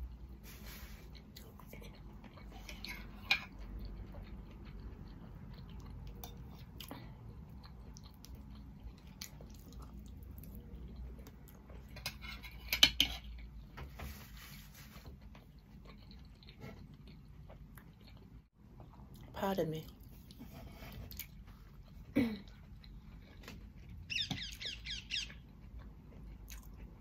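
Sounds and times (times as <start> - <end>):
chewing: 0.0 - 13.6, 14.8 - 19.3, 19.9 - 27.0.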